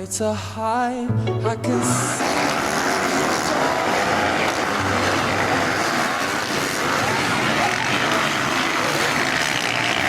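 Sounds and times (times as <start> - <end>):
dirt bike engines revving: 1.7 - 10.0.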